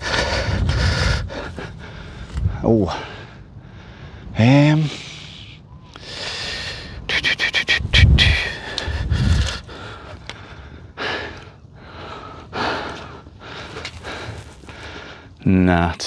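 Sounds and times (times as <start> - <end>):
man breathing hard: 0.0 - 15.4.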